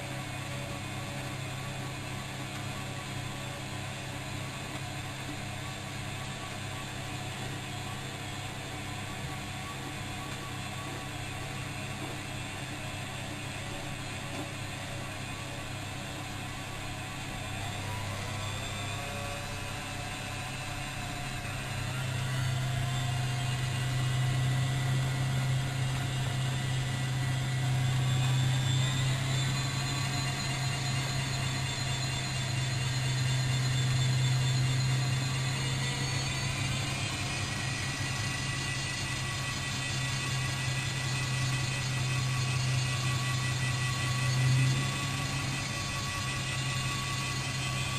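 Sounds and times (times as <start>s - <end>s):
washing machine hum: 0.0s - 47.9s
motor whine rising in pitch: 1.1s - 47.9s.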